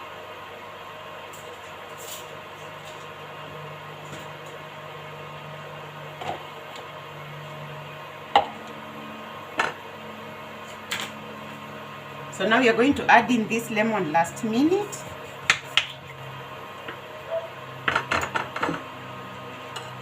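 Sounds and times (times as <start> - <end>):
pot boiling on stove: 0.0 - 20.0.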